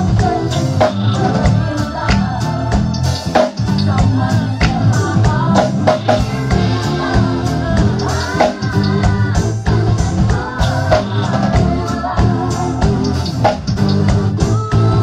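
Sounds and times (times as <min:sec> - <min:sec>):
drum kit kick and snare: 0:00.0 - 0:15.0
electric bass: 0:00.0 - 0:15.0
keyboard: 0:00.0 - 0:15.0.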